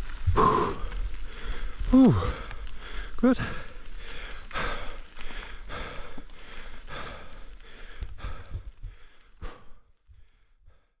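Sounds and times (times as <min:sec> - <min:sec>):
person panting: 0:00.3 - 0:11.0.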